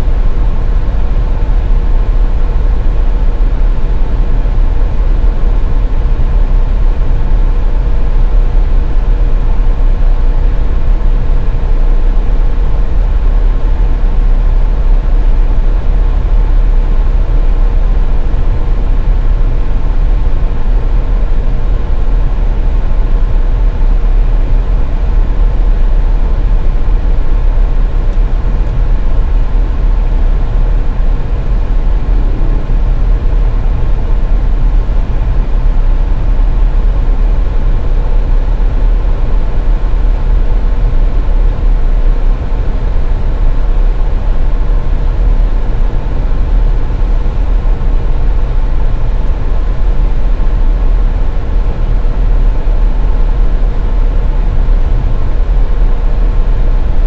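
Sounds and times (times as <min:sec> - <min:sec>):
car road and engine rumble: 0:00.0 - 0:57.0
faint steady hum: 0:00.0 - 0:57.0.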